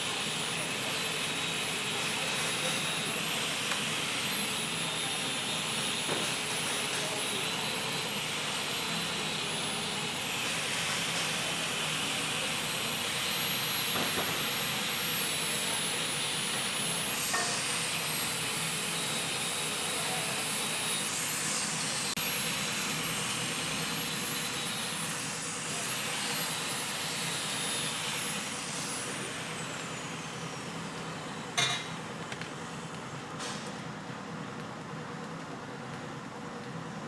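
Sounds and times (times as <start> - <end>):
workshop machine hissing rush: 0.0 - 33.8.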